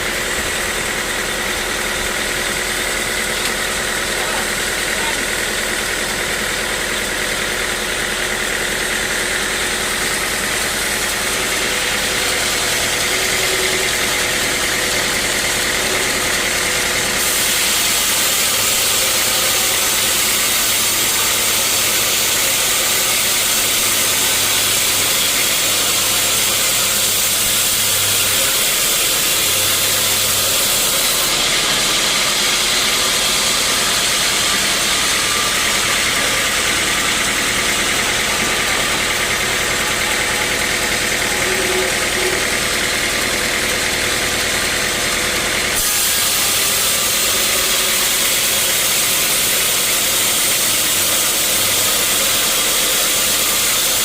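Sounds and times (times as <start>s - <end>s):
saw hissing through log: 0.0s - 54.0s
sawmill machine drone: 0.0s - 54.0s.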